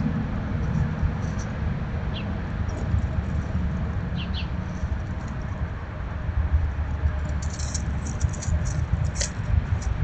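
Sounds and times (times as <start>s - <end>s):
squirrels foraging in seed hulls: 0.0s - 10.0s.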